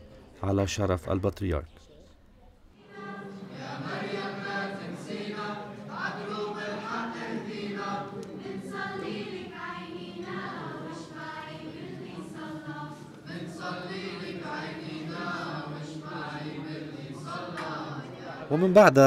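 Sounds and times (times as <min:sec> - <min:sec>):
children's choir singing a hymn: 0:02.7 - 0:19.0.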